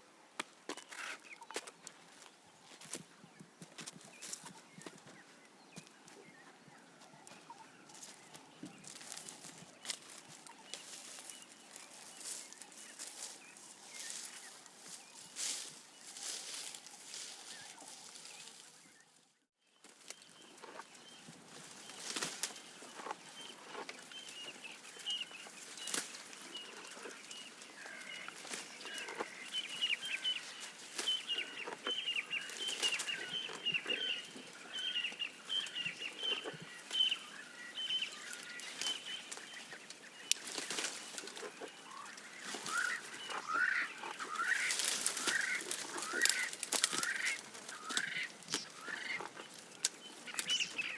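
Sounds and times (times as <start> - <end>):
birds chirping: 0.6 - 50.9
giraffe browsing on leaves: 7.1 - 19.1, 19.8 - 50.9.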